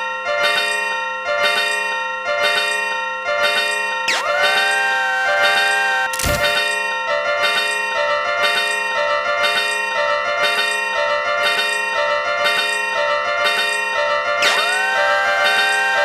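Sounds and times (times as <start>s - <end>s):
level crossing warning bells: 0.0s - 16.0s.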